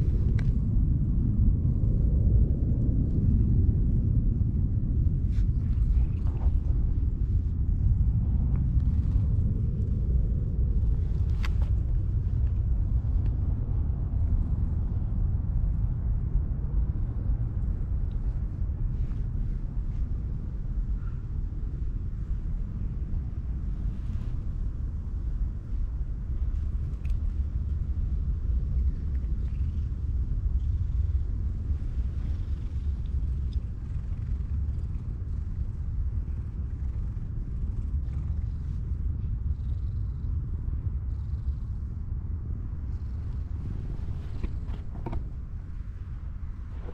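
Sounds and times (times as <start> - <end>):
wind buffeting microphone: 0.0 - 46.9
cat purring: 5.1 - 24.6, 25.2 - 46.9.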